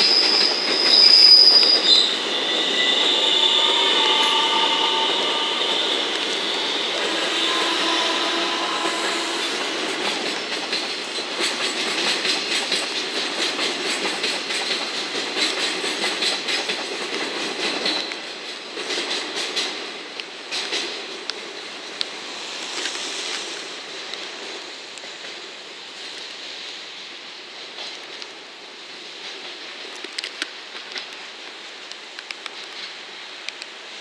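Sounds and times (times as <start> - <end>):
train wheels clicking over joints: 0.0 - 26.6, 27.4 - 34.0
electric train passing: 0.0 - 27.8.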